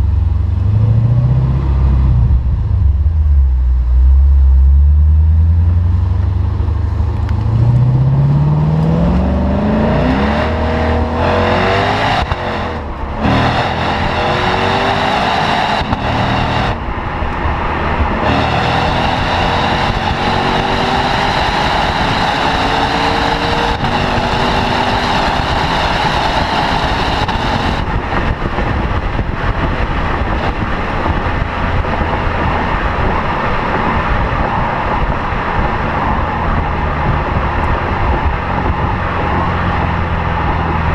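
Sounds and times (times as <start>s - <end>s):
car exhaust under acceleration: 0.0s - 40.9s
road noise: 0.0s - 40.9s.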